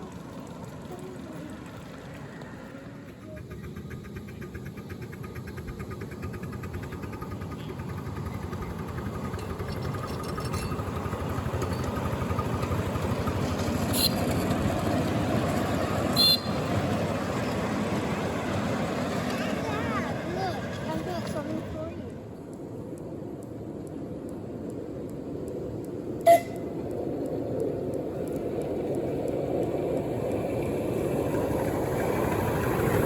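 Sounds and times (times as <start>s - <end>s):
miniature locomotive running: 0.0s - 33.0s.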